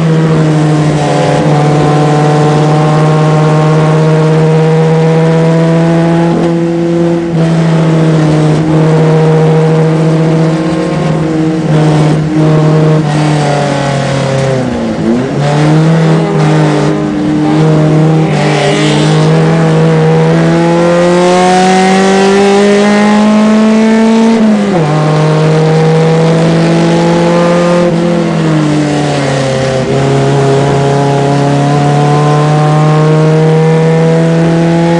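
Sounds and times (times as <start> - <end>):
race car engine at high revs: 0.0 - 34.9.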